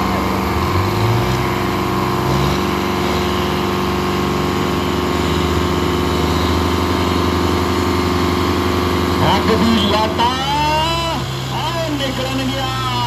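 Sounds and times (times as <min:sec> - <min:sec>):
tractor diesel engines running: 0:00.0 - 0:13.0.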